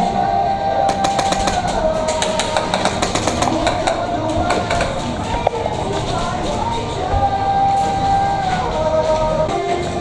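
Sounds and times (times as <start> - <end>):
hip-hop music: 0.9 - 10.0.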